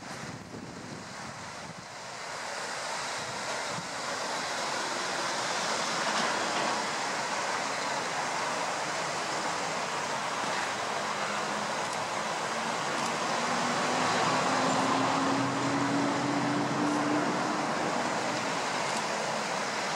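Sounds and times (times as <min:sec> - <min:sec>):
steady rushing outdoor noise: 0:00.0 - 0:19.9.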